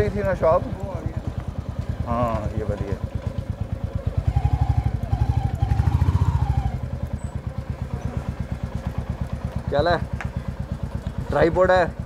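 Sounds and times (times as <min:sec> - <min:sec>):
motorcycle engine thumping: 0:00.0 - 0:06.0, 0:06.6 - 0:12.0.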